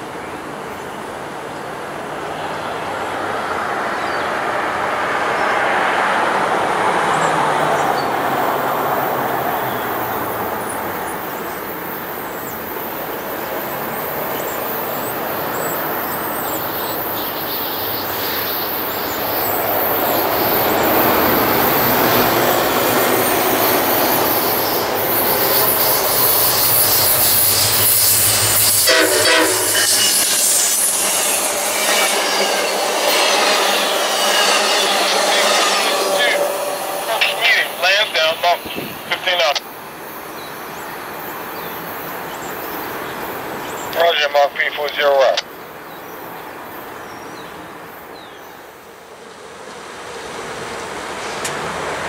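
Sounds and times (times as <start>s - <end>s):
freight train wheels rumbling: 0.0s - 44.1s
passenger train passing: 0.0s - 52.0s.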